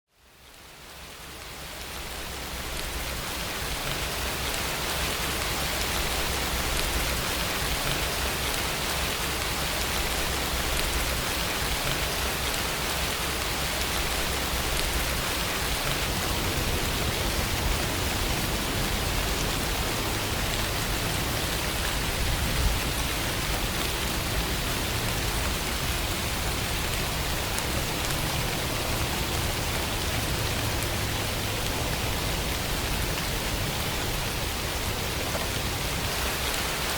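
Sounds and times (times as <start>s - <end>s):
steady rain falling: 0.1s - 36.9s.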